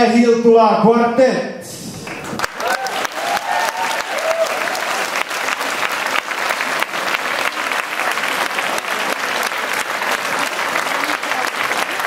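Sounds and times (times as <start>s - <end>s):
large audience applauding: 2.0s - 12.0s.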